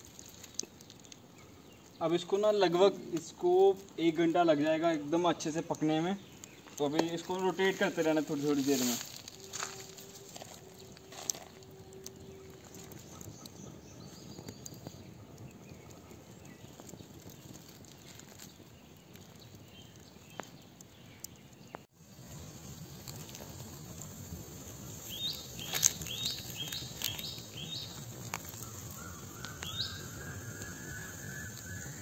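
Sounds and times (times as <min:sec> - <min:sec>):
fire pops: 0:00.0 - 0:32.0
wood fire crackling: 0:00.0 - 0:32.0
bird chirping: 0:00.3 - 0:22.8, 0:24.8 - 0:32.0.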